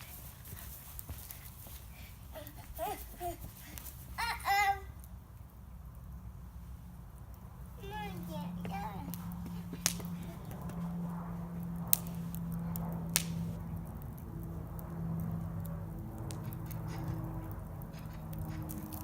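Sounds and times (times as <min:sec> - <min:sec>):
bonfire crackling and popping: 0:00.0 - 0:19.0.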